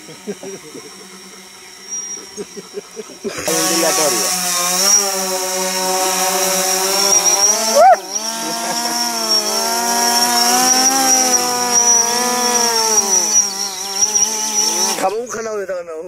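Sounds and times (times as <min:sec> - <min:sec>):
high whine: 0:00.0 - 0:15.1
drone motors buzzing: 0:00.0 - 0:15.4.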